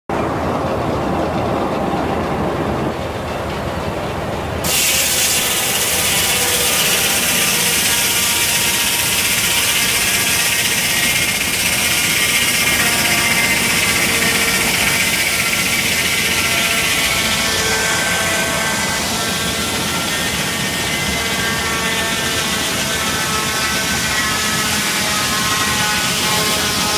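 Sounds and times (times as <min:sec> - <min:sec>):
circular saw cutting log: 0:04.6 - 0:26.9.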